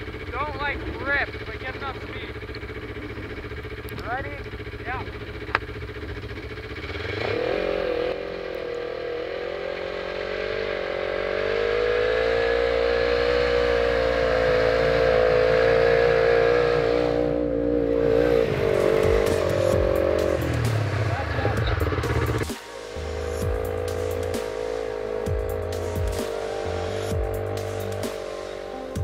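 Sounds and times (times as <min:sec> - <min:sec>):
snowmobile engine revving: 0:00.0 - 0:29.0.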